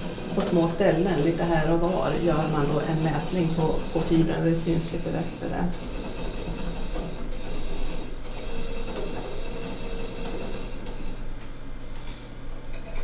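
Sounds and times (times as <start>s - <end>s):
device mechanical whir: 0.0s - 11.2s
low electrical hum: 0.0s - 13.0s.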